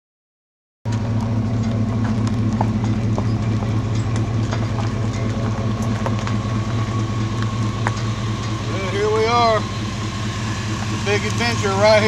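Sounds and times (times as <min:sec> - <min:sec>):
vehicle engine idling: 0:00.9 - 0:12.0.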